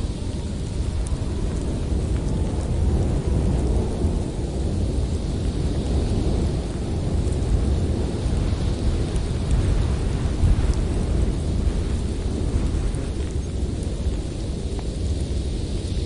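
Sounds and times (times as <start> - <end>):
faint ticks: 0.0 - 3.8, 5.0 - 16.0
blizzard wind blowing hard: 0.0 - 16.0.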